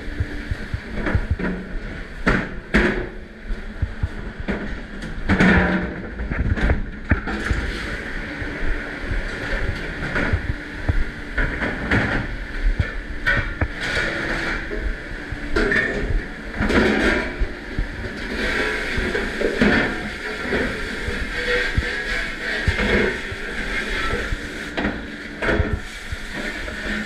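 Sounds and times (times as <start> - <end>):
dishwashing machine running: 0.0 - 27.0.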